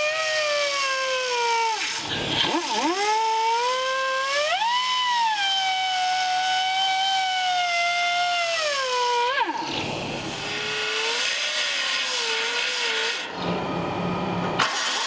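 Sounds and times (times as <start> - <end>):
air belt sander grinding steel: 0.0 - 13.4.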